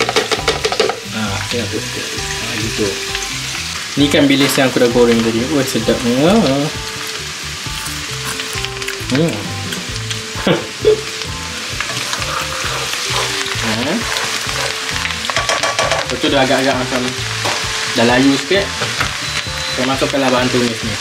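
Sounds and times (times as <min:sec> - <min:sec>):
oil sizzling and crackling in a wok: 0:00.0 - 0:21.0.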